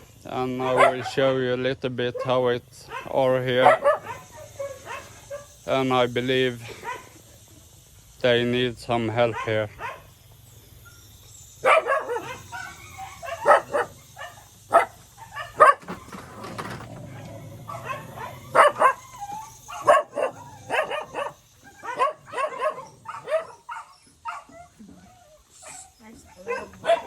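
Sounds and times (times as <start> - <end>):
dogs barking: 0.5 - 1.4, 2.0 - 5.7, 6.6 - 7.5, 9.1 - 10.2, 11.6 - 27.0.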